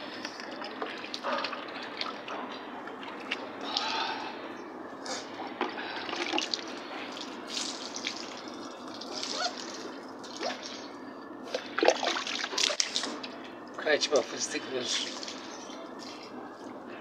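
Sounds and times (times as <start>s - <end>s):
water splashing and dripping: 0.0s - 4.3s, 5.6s - 16.3s.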